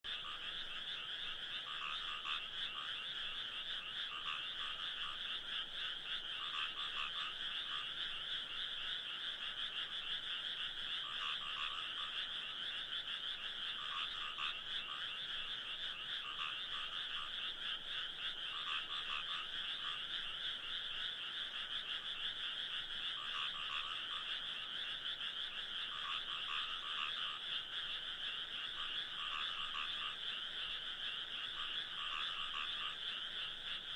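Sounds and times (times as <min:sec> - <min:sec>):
chorus of frogs croaking: 0:00.0 - 0:33.9
single frog calls: 0:00.1 - 0:33.9.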